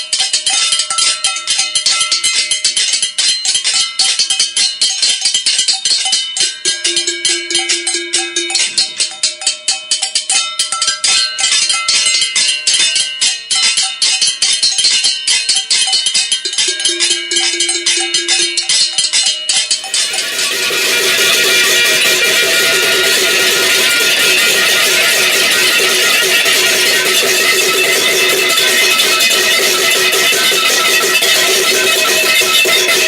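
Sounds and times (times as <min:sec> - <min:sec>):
pots and pans being beaten: 0:00.0 - 0:33.0.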